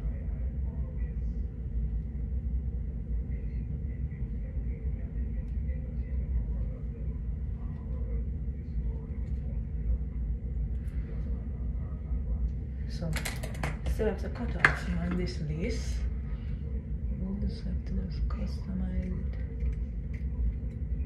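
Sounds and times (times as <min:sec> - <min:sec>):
faint hum: 0:00.0 - 0:21.0
ventilation rumble: 0:00.0 - 0:21.0.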